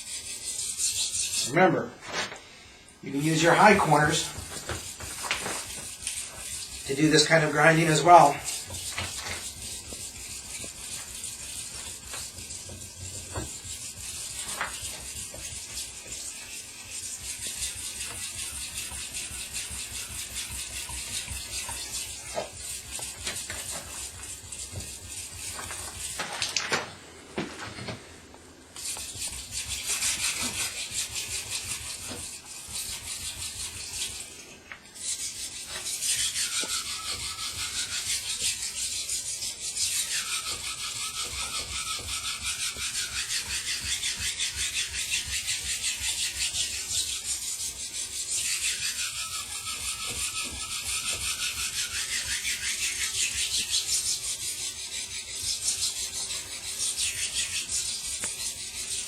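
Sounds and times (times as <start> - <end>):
knife grinding on whetstone: 0.0 - 2.3, 3.1 - 26.6, 28.8 - 59.0.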